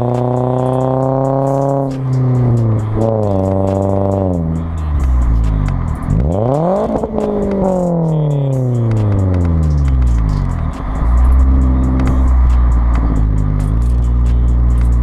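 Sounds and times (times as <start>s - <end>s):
car exhaust engine note: 0.0s - 15.0s.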